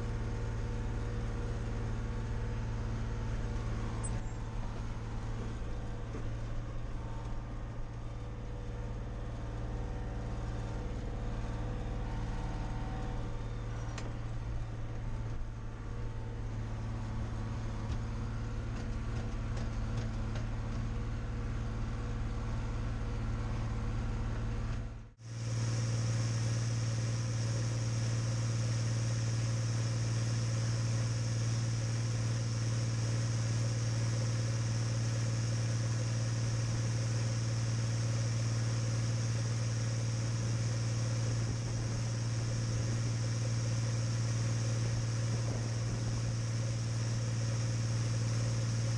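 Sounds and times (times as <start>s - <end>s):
diesel tractor engine running: 0.0s - 48.9s.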